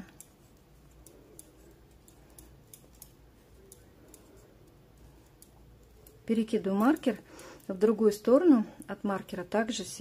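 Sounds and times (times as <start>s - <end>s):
knitting needles clicking: 0.0s - 9.0s.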